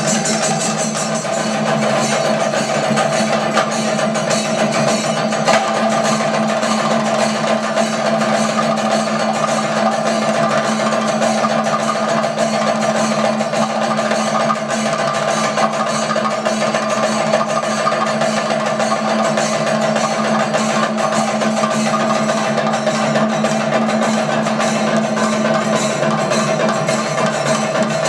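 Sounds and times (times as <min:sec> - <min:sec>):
drums played with sticks: 0:00.0 - 0:28.0
hand cymbals ringing: 0:00.0 - 0:28.0.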